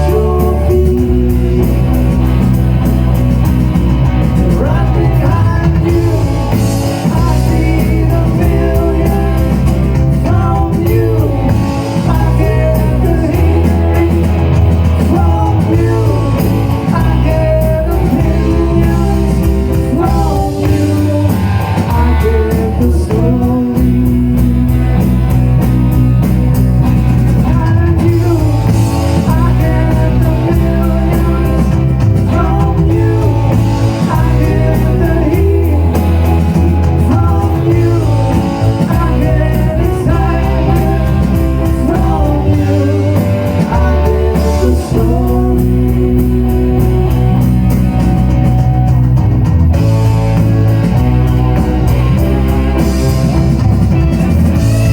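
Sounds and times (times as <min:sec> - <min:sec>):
blues-rock band with singer: 0:00.0 - 0:54.9.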